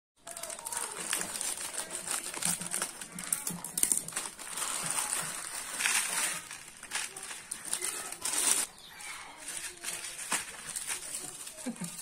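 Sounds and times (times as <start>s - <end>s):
plastic packet crinkling: 0.2s - 12.0s.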